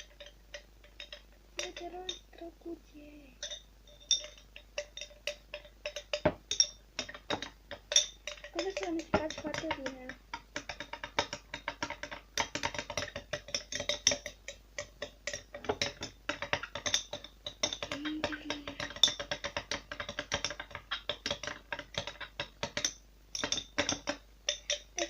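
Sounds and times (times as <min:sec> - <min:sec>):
utensil stirring soap in container: 0:03.4 - 0:25.0.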